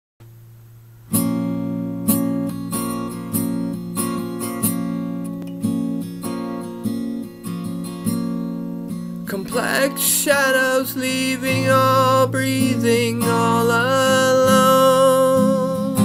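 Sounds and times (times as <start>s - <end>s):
acoustic guitar strummed: 0.2s - 16.0s.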